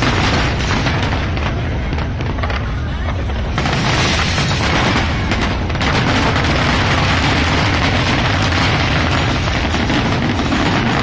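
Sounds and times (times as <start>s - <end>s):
fireworks booms and pops: 0.0s - 11.0s.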